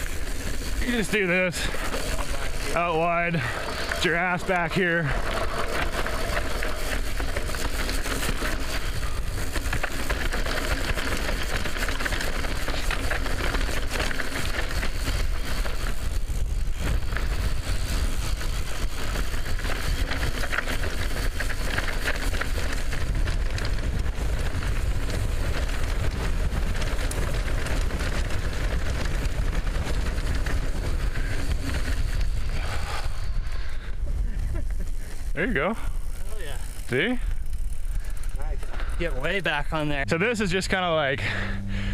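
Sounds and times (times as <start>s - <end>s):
mountain bike rattling: 0.0s - 41.9s
tyres on rough dirt: 0.0s - 41.9s.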